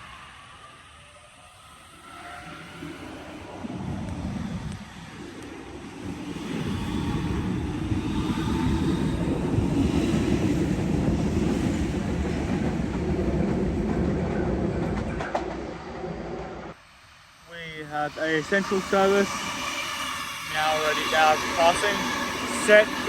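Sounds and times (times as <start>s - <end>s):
electric train running: 0.0s - 23.0s.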